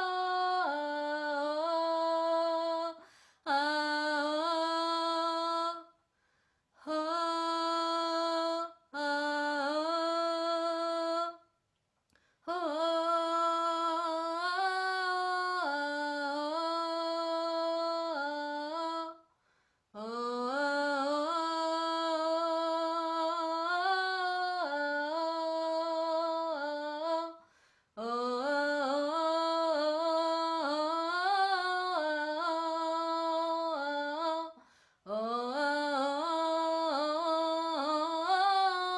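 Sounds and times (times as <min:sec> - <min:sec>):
woman singing wordless notes: 0:00.0 - 0:06.0, 0:06.8 - 0:11.4, 0:12.5 - 0:19.2, 0:20.0 - 0:27.4, 0:28.0 - 0:38.9.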